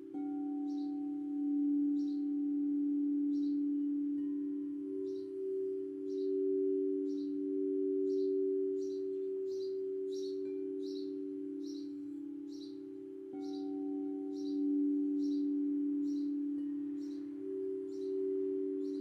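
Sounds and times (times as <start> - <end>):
bird chirping: 0.0 - 19.0
singing bowl ringing: 0.0 - 19.0.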